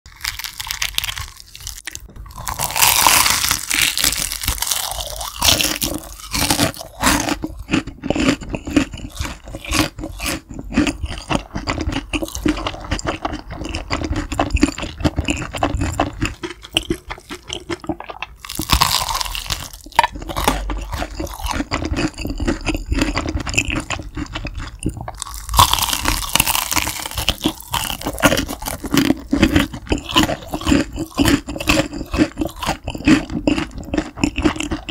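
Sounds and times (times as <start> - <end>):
fried chicken crust crunching: 0.1 - 34.9
wet chewing: 0.1 - 34.9.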